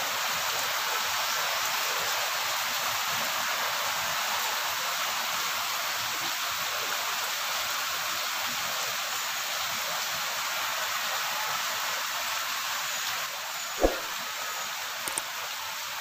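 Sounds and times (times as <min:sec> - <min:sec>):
heavy rain on trees: 0:00.0 - 0:16.0.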